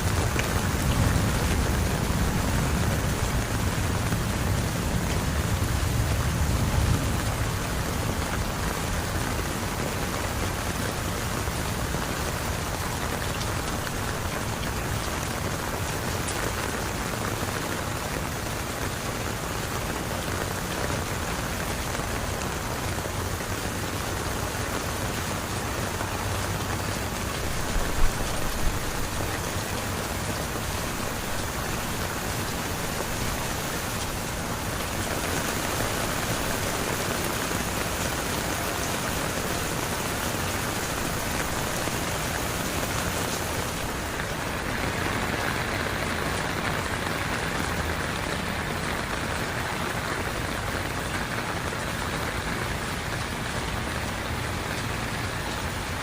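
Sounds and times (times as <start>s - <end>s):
heavy rain splashing: 0.0s - 56.0s.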